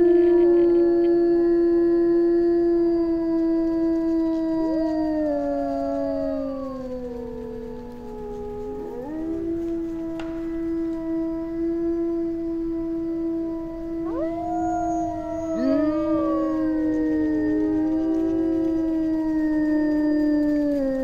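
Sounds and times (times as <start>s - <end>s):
wolves howling: 0.0s - 21.0s.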